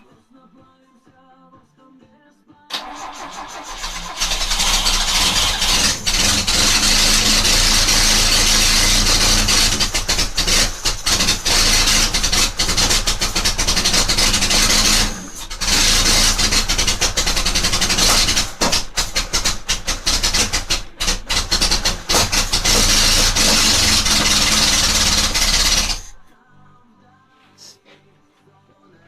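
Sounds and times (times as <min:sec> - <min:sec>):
car engine running unevenly: 0:02.8 - 0:26.2.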